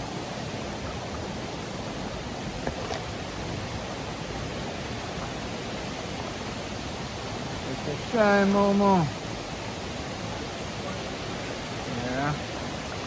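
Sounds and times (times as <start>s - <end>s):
river water rushing over falls: 0.0s - 13.0s.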